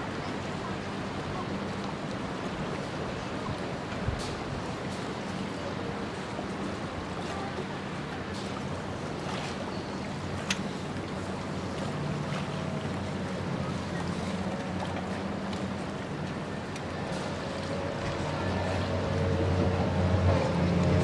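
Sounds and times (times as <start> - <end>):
water noise: 0.0 - 21.0.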